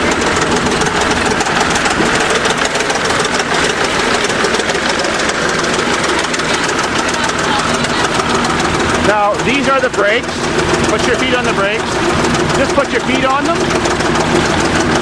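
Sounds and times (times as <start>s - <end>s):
bulldozer diesel engine idling: 0.0s - 15.0s.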